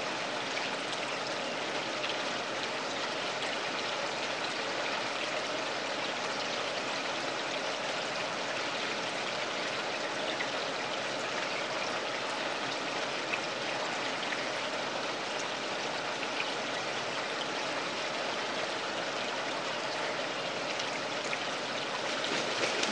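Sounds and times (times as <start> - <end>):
running water in a pond: 0.0 - 22.9.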